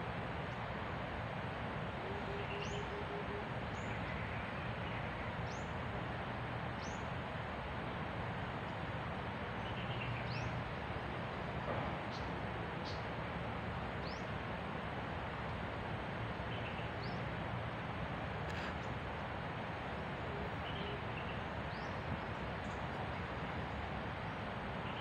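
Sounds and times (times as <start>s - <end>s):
forest background hiss: 0.0s - 25.0s.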